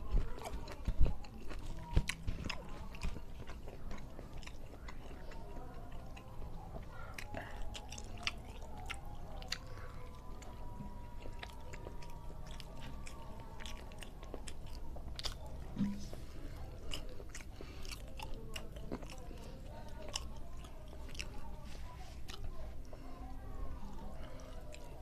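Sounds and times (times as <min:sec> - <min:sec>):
man chewing food: 0:00.0 - 0:25.0.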